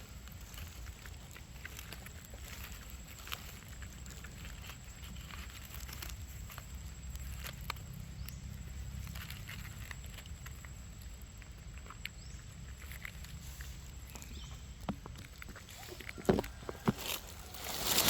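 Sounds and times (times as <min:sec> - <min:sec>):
light clicks and rustles: 0:00.0 - 0:18.0
low steady rumble: 0:00.0 - 0:18.0.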